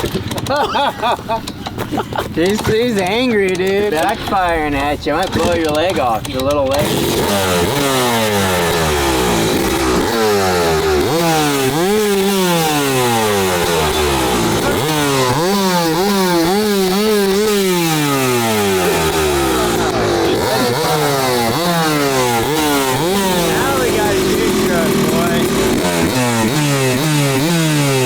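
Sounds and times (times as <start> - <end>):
two-stroke dirt bike engine revving: 0.0 - 28.0.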